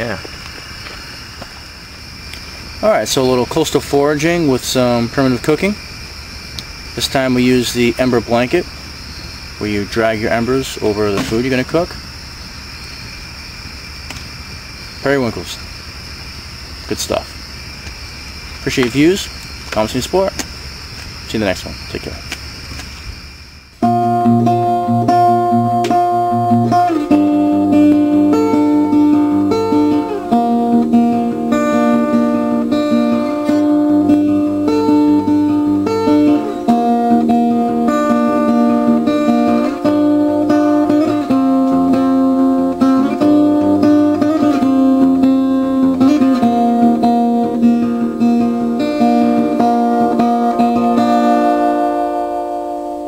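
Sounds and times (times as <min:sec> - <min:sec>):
acoustic guitar melody: 0:00.0 - 0:13.4, 0:23.8 - 0:53.0.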